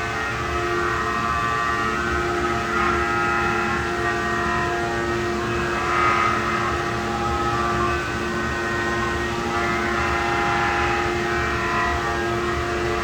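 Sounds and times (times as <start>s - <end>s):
machine spindle whine: 0.0s - 13.0s.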